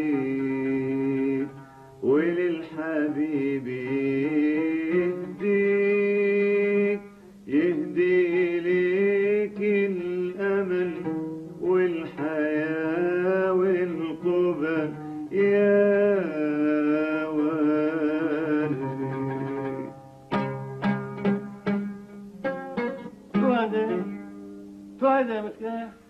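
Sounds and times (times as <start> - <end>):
person singing ornamented notes: 0.0 - 21.8, 23.1 - 24.2
oud: 0.0 - 26.0.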